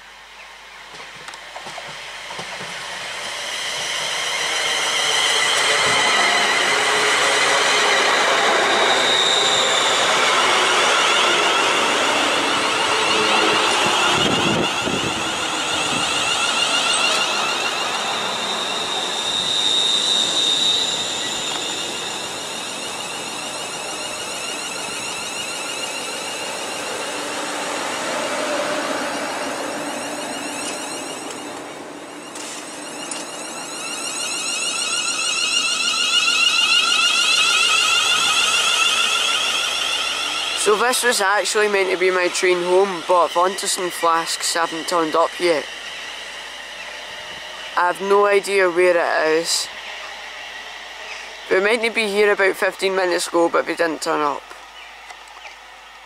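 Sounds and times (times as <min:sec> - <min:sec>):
high steady whine: 0:00.0 - 0:56.0
train wheel-on-rail noise: 0:00.0 - 0:56.0.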